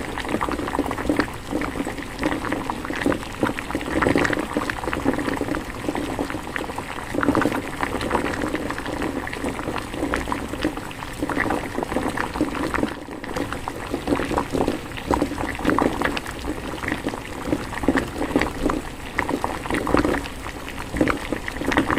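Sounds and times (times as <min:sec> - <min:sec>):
stew bubbling in a pot: 0:00.0 - 0:21.9.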